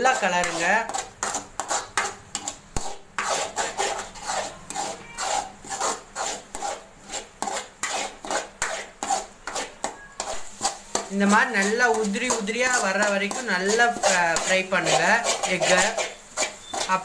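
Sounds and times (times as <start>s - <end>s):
metal spoon scraping a pan: 0.0s - 17.0s.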